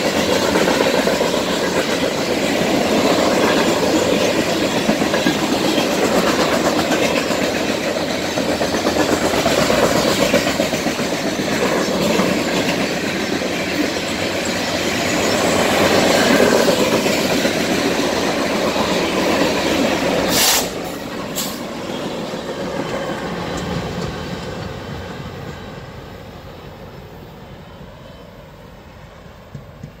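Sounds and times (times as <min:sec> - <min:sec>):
train wheels clattering on rails: 0:00.0 - 0:26.2, 0:29.2 - 0:30.0.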